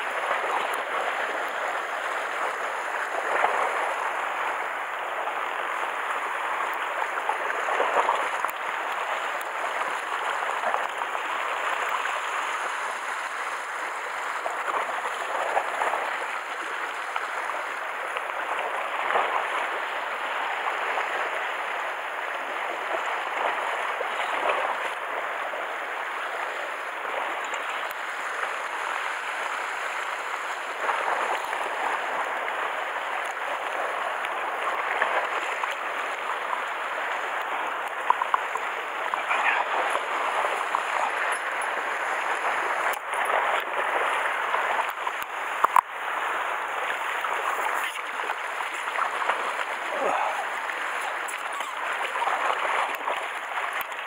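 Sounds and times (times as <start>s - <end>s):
waves breaking on rocks: 0.0s - 54.0s.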